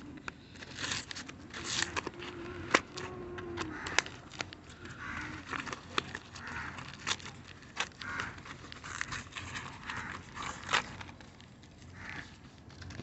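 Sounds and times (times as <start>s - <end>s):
cardboard tearing: 0.0s - 13.0s.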